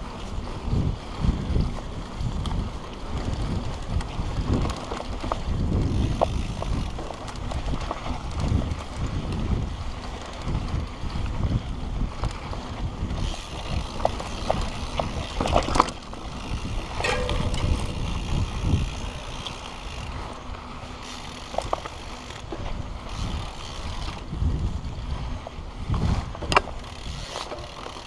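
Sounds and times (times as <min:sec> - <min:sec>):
wind buffeting microphone: 0:00.0 - 0:21.8, 0:22.5 - 0:28.0
bike clicks and rattles: 0:00.0 - 0:28.0.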